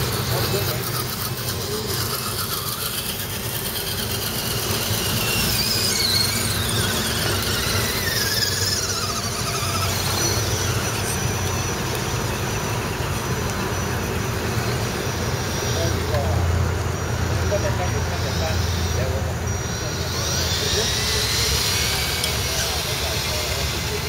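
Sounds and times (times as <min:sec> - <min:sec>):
rc truck motors whining: 0:00.0 - 0:24.0.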